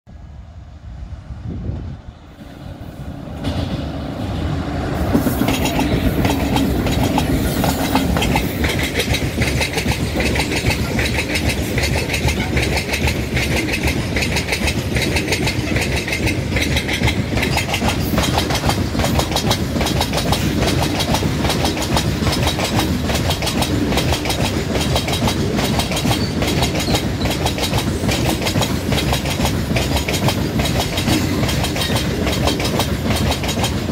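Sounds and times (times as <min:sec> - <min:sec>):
freight train passing: 0:00.1 - 0:33.9
wheels clacking over rail joints: 0:03.2 - 0:33.9.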